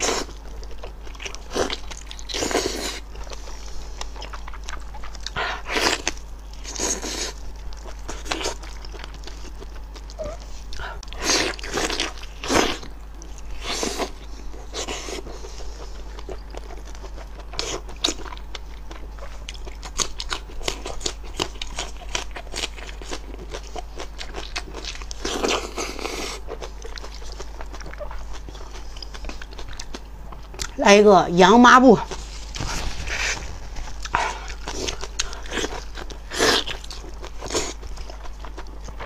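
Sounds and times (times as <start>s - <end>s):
wet chewing and biting: 0.0s - 30.8s, 32.1s - 39.0s.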